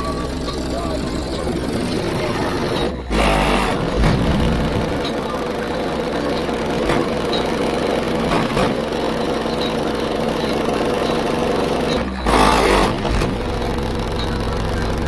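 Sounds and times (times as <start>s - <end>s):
car subwoofer bass rumble: 0.0s - 9.4s, 12.2s - 15.0s.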